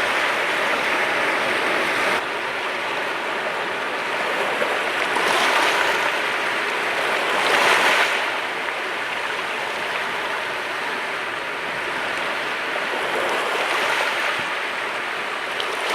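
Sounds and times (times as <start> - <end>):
sea waves breaking on shore: 0.0 - 15.9.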